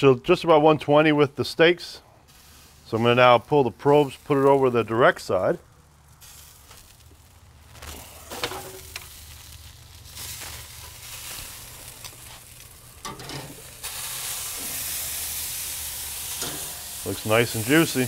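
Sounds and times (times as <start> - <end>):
steaks sizzling on a grill: 2.3 - 18.0.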